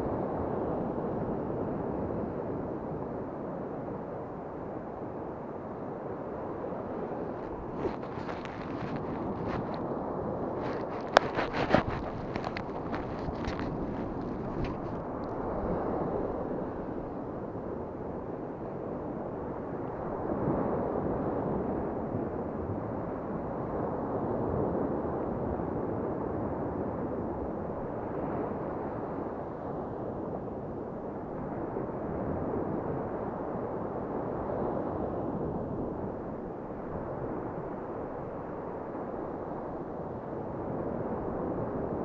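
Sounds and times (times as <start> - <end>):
wind buffeting microphone: 4.8 - 42.0.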